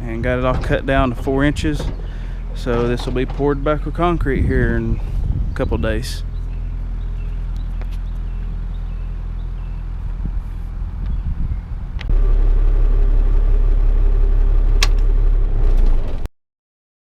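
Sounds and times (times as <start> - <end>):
engine idling: 0.0 - 16.3.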